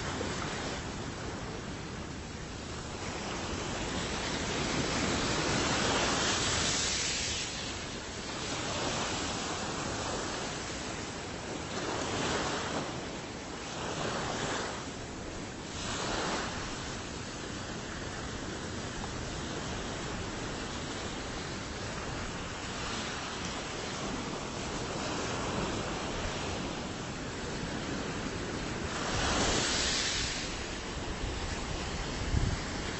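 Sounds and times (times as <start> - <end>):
ocean waves washing onto shore: 0.0 - 32.9.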